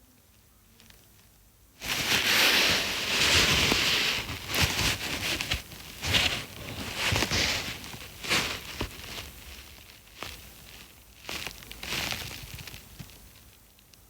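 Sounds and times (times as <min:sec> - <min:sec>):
rustling and crackling handling noise: 0:00.3 - 0:14.0.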